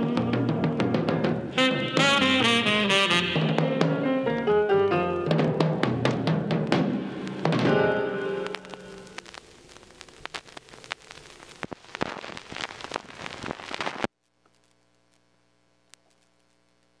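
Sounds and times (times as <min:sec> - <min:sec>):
faint hum: 0:03.4 - 0:17.0
record surface crackle and pops: 0:03.4 - 0:17.0.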